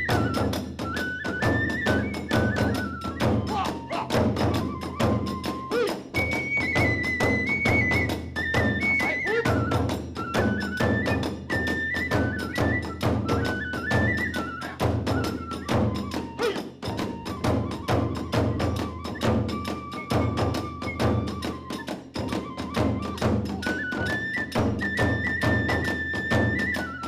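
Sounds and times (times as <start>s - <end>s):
bamboo flute melody: 0.0s - 27.0s
drums: 0.0s - 27.0s.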